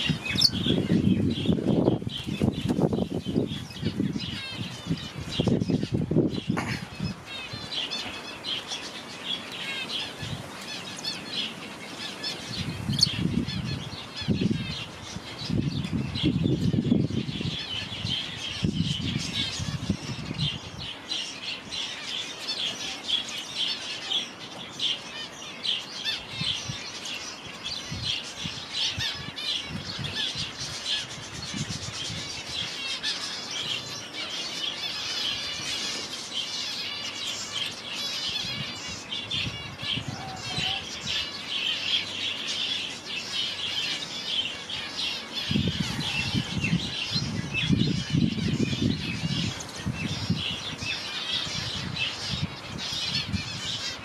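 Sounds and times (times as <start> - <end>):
parrots chirping and chattering: 0.0 - 54.0.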